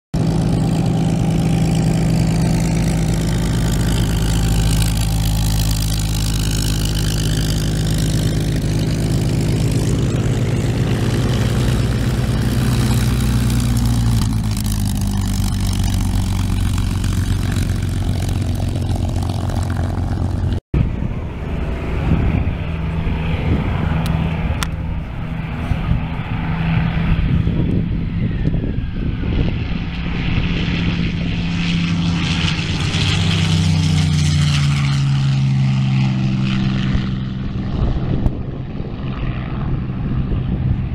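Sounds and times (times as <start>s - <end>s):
propeller plane engines running: 0.2s - 40.9s.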